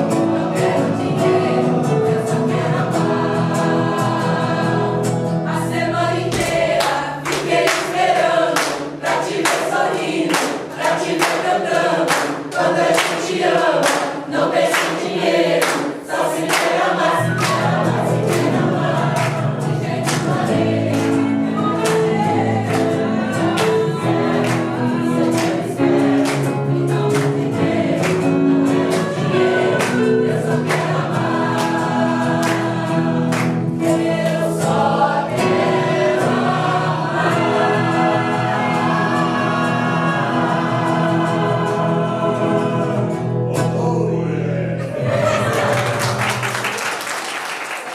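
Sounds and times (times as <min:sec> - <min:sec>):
choir singing: 0:00.0 - 0:46.6.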